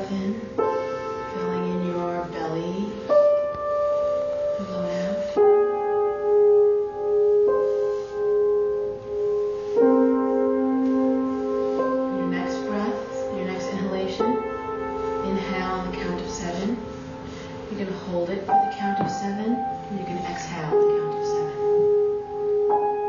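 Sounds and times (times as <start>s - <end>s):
slow meditative keyboard chords: 0.0s - 23.0s.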